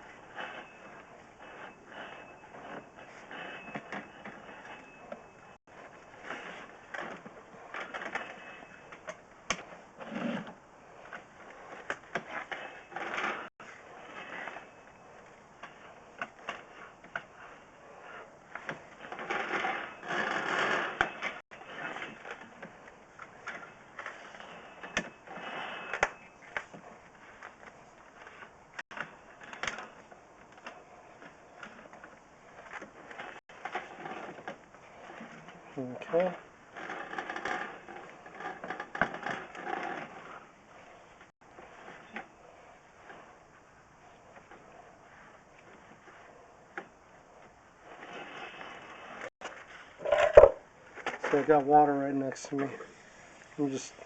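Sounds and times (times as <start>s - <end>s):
cable scraping in pipe: 0.0s - 54.0s.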